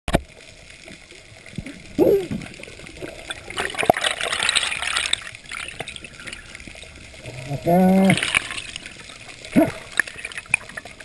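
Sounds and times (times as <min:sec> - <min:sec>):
water splashing and gurgling: 0:00.1 - 0:11.0.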